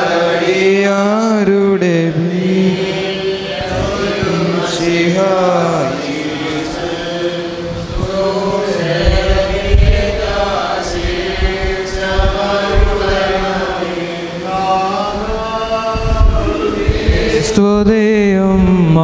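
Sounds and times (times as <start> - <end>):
slow liturgical chanting: 0.0 - 19.0.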